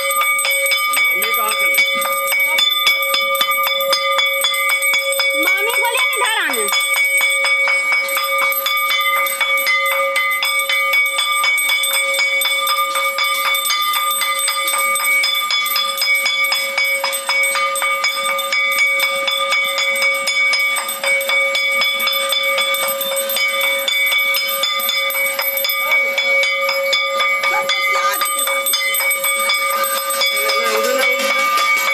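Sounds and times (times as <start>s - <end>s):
bell ringing rapidly: 0.0s - 31.9s.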